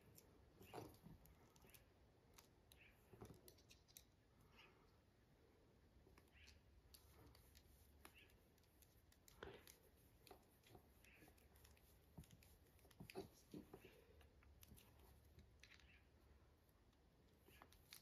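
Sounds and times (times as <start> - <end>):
faint clicks and handling sounds: 0.0 - 18.0.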